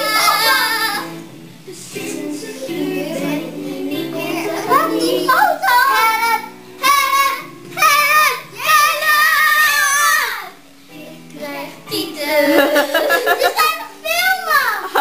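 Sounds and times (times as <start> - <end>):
girls singing loudly: 0.0 - 10.6, 11.4 - 13.5
recorded backing music: 0.0 - 15.0.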